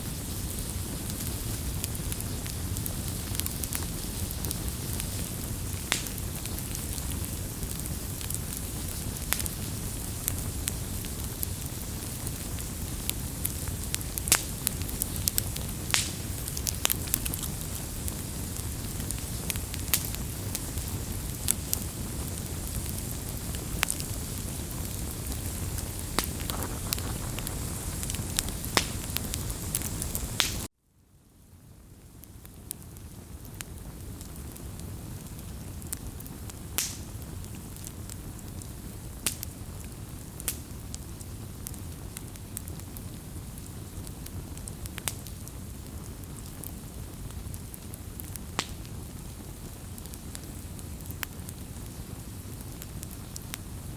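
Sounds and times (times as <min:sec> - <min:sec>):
wood fire crackling and popping: 0:00.0 - 0:30.7, 0:32.0 - 0:53.9.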